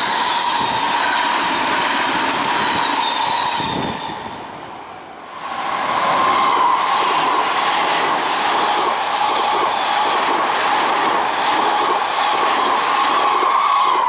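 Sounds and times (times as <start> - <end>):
train hum: 0.0 - 14.0
train wheel-on-rail running noise: 0.0 - 14.0.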